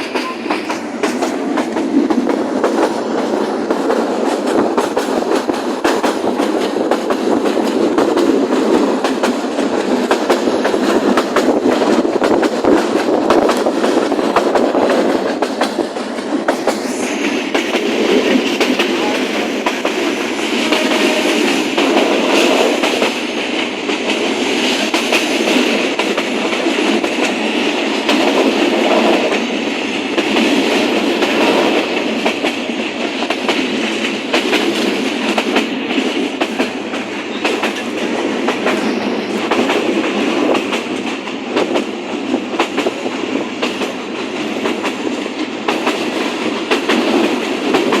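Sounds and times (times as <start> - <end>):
train rumbling on rails: 0.0 - 48.0
wheels clattering on track: 0.0 - 48.0.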